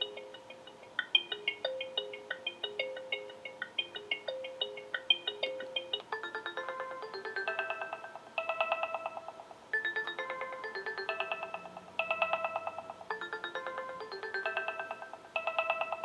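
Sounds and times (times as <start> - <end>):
synthesized phone ringtone: 0.0 - 16.0.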